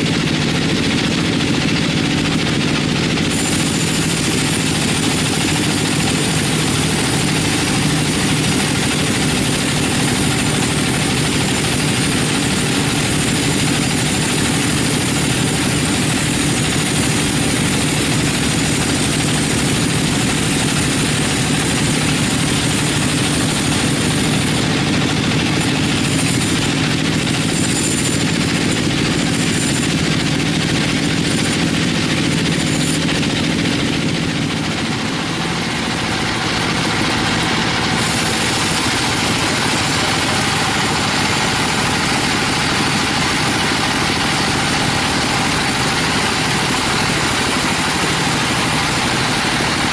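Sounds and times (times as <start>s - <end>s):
bandsaw cutting log: 0.0s - 49.9s.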